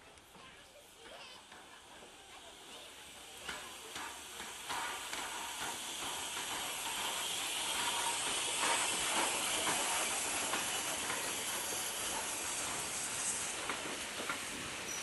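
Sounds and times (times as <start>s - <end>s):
steam locomotive hissing: 0.2s - 15.0s.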